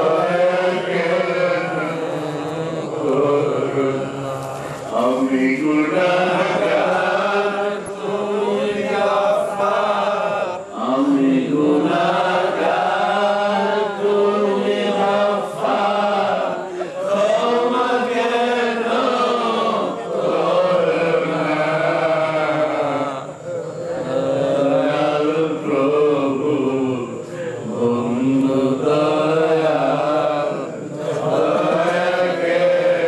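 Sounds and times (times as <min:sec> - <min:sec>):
man chanting through microphone: 0:00.0 - 0:33.0.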